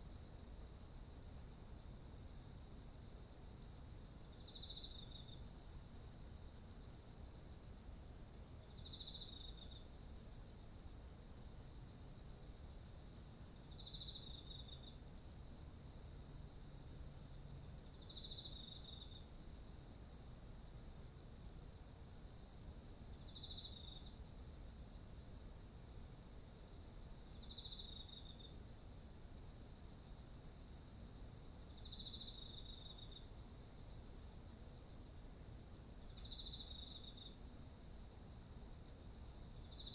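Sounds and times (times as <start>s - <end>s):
lower pulsing insect trill: 2.6s - 39.9s.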